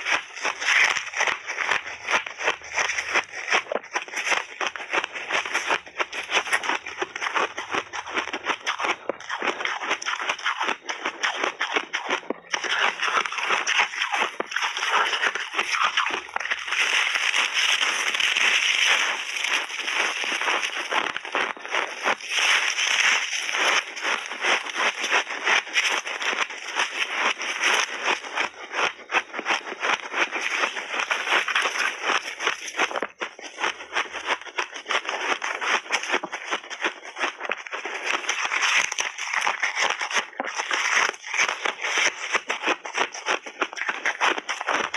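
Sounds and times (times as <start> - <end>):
crunching of shaved ice being chewed: 0.0 - 44.9.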